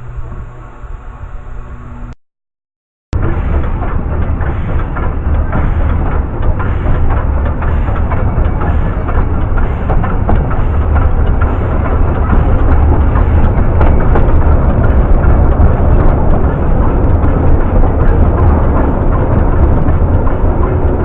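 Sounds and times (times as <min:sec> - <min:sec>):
rail clicks: 0:03.2 - 0:21.0
train rumbling: 0:03.2 - 0:21.0.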